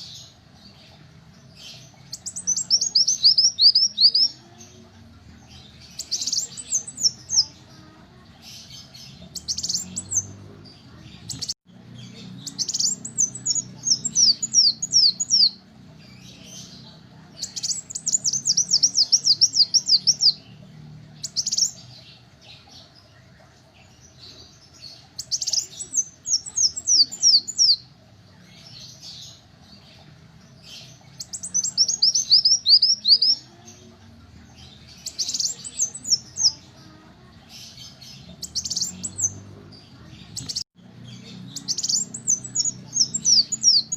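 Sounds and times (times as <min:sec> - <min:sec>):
sunbird high-pitched chirps: 0:00.0 - 0:04.9, 0:05.5 - 0:33.9, 0:34.6 - 0:43.9.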